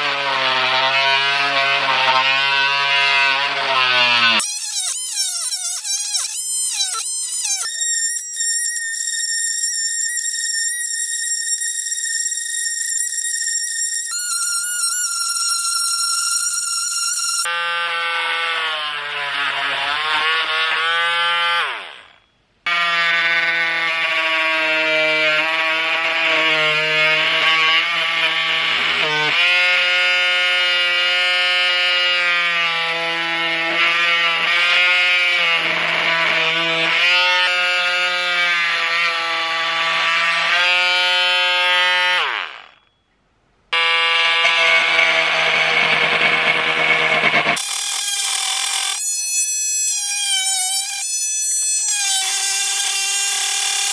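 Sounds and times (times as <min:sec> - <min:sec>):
oscillating multi-tool sawing wood: 0:00.0 - 0:42.4, 0:43.8 - 0:53.9.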